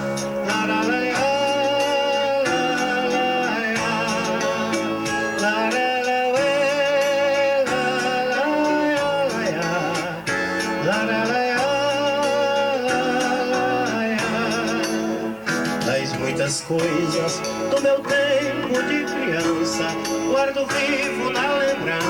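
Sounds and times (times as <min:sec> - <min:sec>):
guitar accompaniment: 0:00.0 - 0:22.0
wavering vocal melody: 0:00.0 - 0:22.0.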